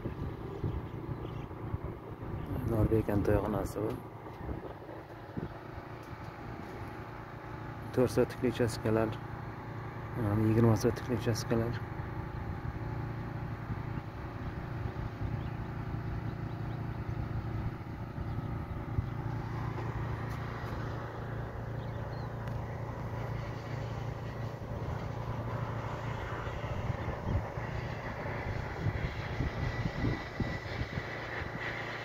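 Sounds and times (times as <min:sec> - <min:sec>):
wind buffeting microphone: 0:00.0 - 0:07.2, 0:11.8 - 0:23.2, 0:24.0 - 0:32.0
machinery hum: 0:00.0 - 0:32.0.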